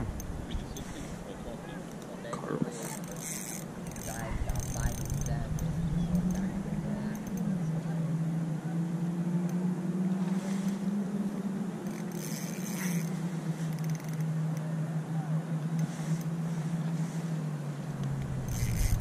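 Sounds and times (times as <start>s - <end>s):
small boat motor humming: 0.0s - 19.0s.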